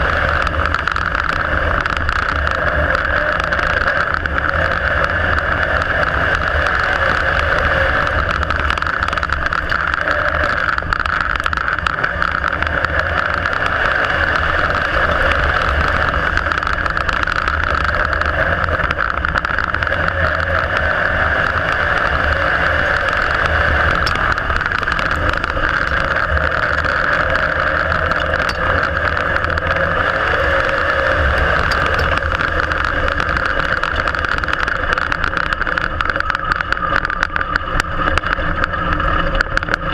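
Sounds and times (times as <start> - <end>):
race car engine droning: 0.0 - 39.9.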